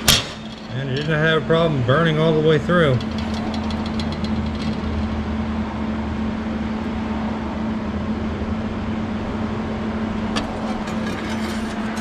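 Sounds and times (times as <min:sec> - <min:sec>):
machine hum with whir: 0:00.0 - 0:12.0.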